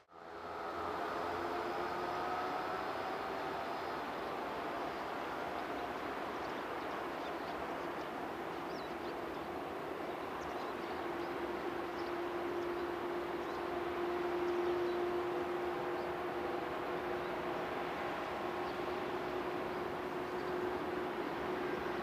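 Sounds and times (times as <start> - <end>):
steady hum: 0.0 - 22.0
distant train rolling past: 0.2 - 22.0.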